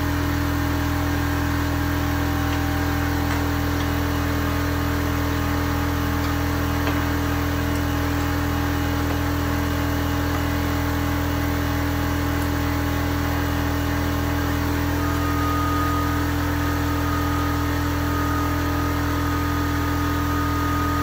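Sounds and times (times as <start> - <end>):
motor humming and hissing: 0.0 - 21.0.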